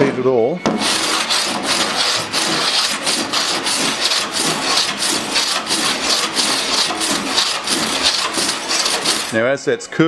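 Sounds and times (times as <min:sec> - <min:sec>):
metal file rasping on steel: 0:00.7 - 0:09.4.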